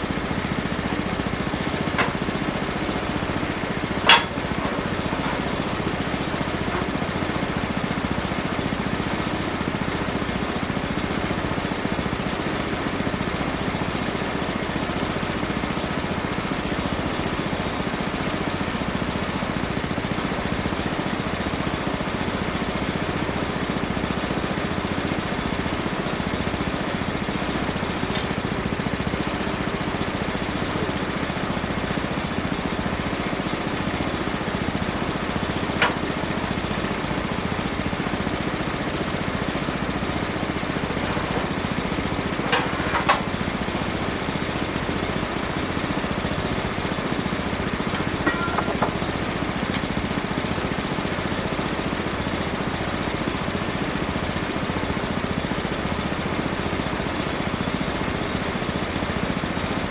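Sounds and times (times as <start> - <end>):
small gas engine running: 0.0 - 59.9.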